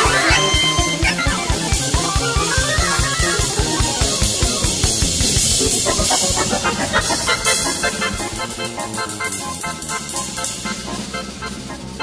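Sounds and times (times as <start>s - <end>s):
jazz fusion band playing: 0.0s - 12.0s.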